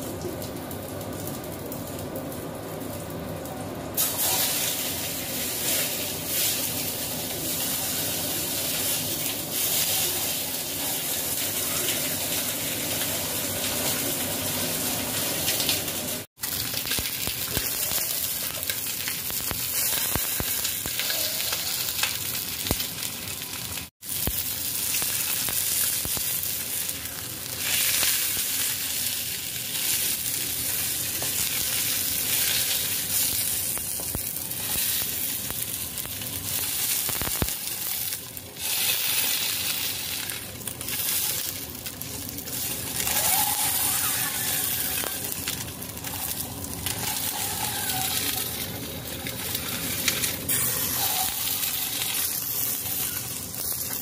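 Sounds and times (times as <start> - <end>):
fish sizzling in hot oil: 4.0 - 54.0.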